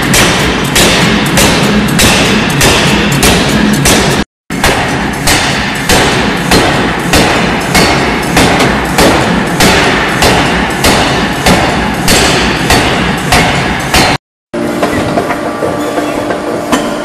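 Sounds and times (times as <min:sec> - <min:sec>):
forging hammer striking metal: 0:00.0 - 0:17.0
steady machinery noise: 0:00.0 - 0:17.0.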